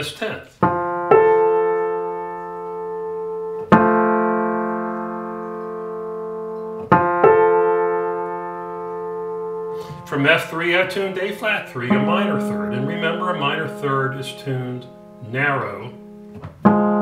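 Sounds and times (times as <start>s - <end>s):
piano intervals ringing: 0.0s - 17.0s.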